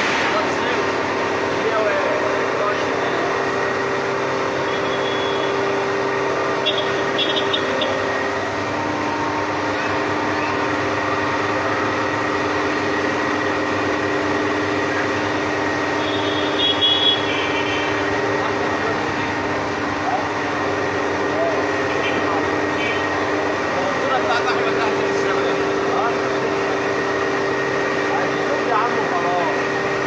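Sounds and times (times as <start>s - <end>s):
motor humming: 0.0s - 30.0s.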